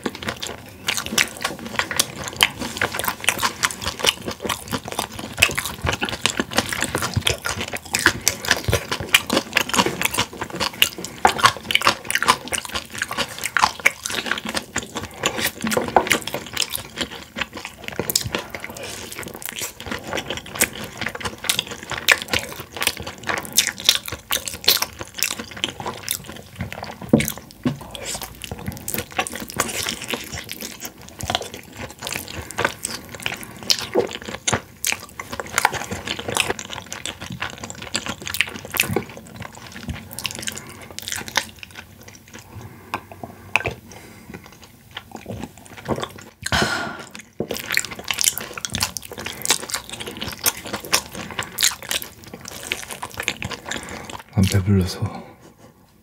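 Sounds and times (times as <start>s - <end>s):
crunching and chewing fried chicken: 0.0s - 55.7s.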